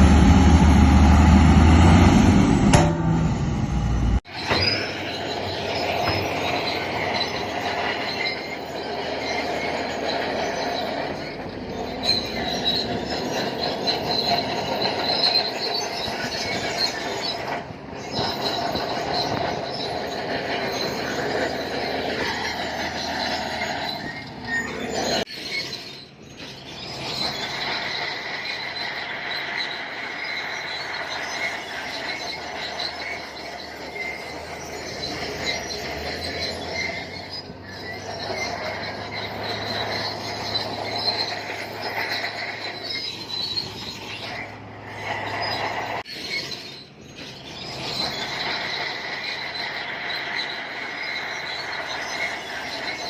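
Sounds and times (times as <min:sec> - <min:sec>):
bulldozer engine running: 0:00.0 - 0:53.0
bulldozer tracks squealing: 0:00.0 - 0:53.0.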